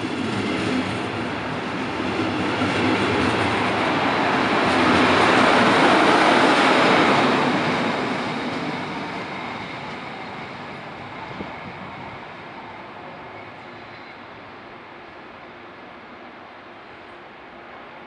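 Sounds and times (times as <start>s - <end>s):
electric train rolling past: 0.0s - 18.0s.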